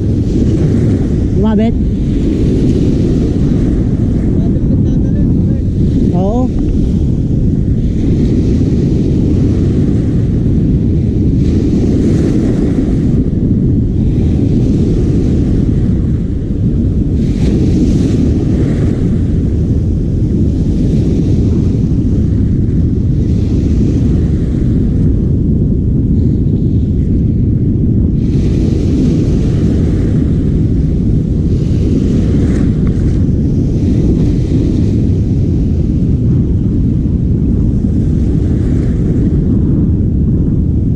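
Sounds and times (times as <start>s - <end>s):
boat engine running: 0.0s - 40.9s
wind buffeting microphone: 0.0s - 40.9s.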